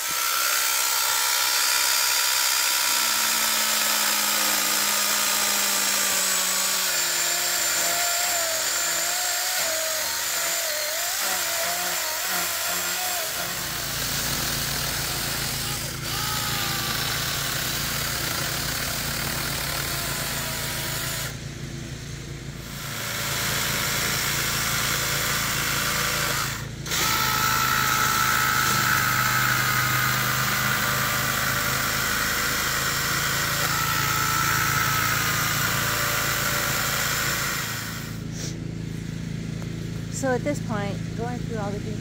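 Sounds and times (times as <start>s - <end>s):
cordless chainsaw whining: 0.0s - 21.6s, 22.6s - 39.0s.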